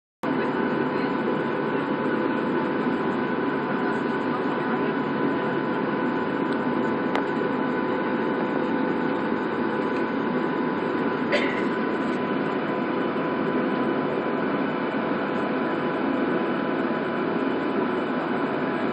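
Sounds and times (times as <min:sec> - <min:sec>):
high whine: 0:00.2 - 0:18.9.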